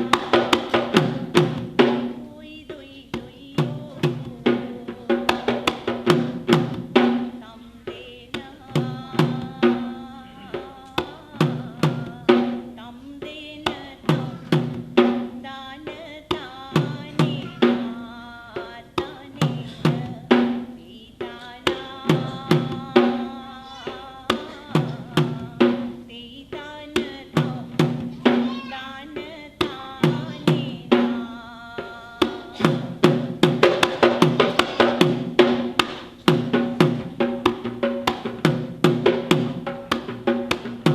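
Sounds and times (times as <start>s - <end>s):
drums played in rhythm: 0.0s - 40.9s.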